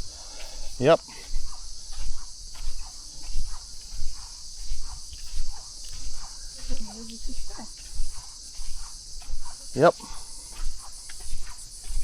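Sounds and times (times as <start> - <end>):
footsteps with squeaking shoe: 0.0 - 12.0
insects chorus: 0.0 - 12.0.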